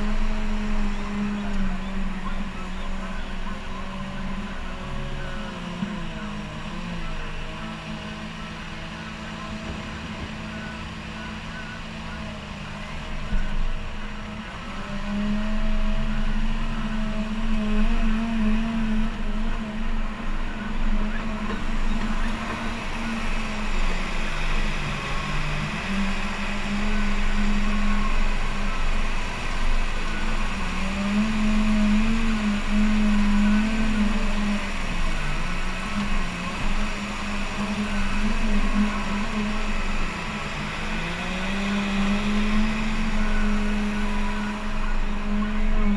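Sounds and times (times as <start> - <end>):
wheel loader diesel engine: 0.0 - 45.9.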